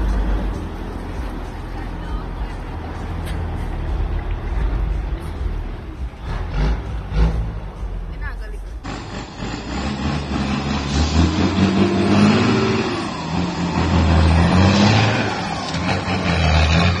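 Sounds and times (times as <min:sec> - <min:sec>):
diesel truck engine pulling: 0:00.0 - 0:17.0.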